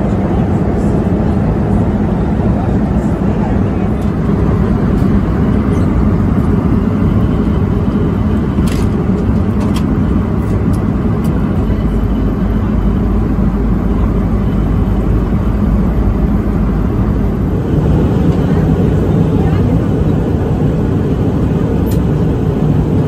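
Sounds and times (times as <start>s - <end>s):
airplane cabin engine roar: 0.0s - 23.0s.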